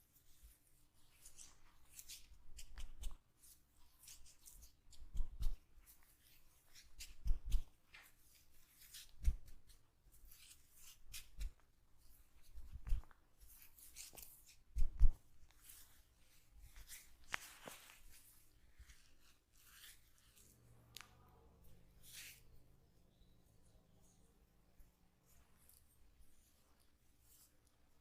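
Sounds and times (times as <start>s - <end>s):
hands rubbing hair: 0.1s - 20.8s, 21.9s - 22.6s, 24.7s - 28.0s.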